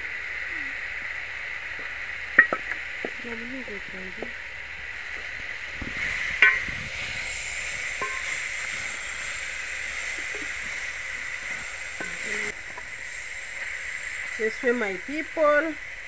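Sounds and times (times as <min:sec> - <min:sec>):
leaves sizzling in a pot: 0:00.0 - 0:16.0.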